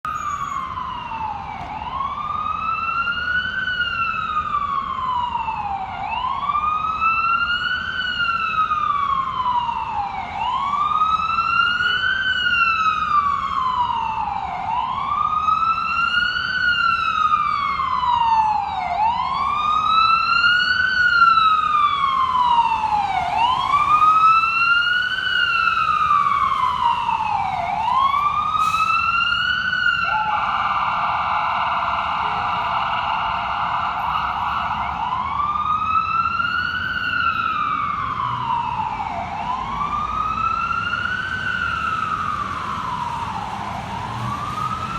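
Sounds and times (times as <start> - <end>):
ambulance siren wailing: 0.0 - 44.9.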